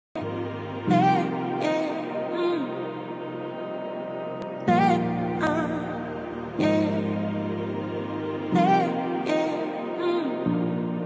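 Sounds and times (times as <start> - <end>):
soft background music: 0.2 - 11.0.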